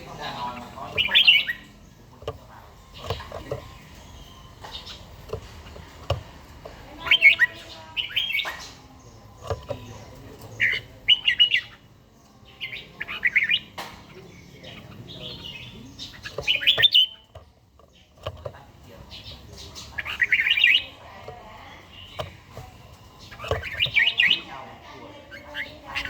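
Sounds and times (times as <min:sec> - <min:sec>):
bulbul singing: 0:00.0 - 0:26.0.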